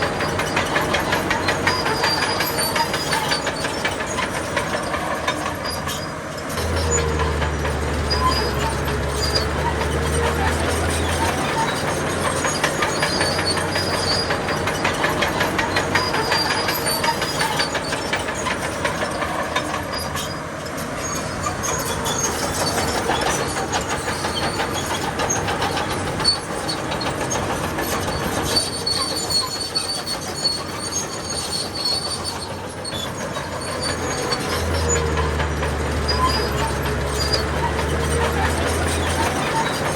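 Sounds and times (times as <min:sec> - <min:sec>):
diesel engine under load: 0:00.0 - 0:39.9
steel tracks clanking and squealing: 0:00.0 - 0:39.9.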